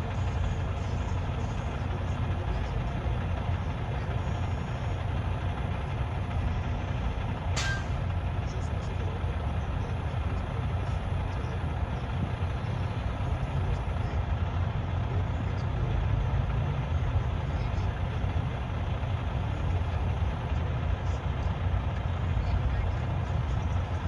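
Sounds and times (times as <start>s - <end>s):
truck diesel engine idling: 0.0s - 24.0s.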